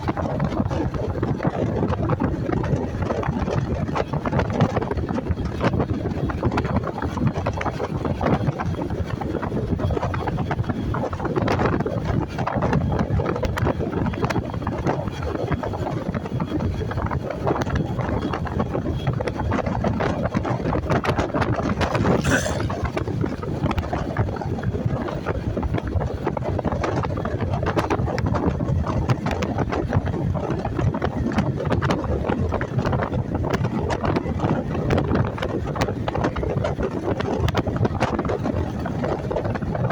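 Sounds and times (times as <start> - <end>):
motorcycle engine and road noise: 0.0 - 39.8
wind rushing over microphone: 0.0 - 39.9.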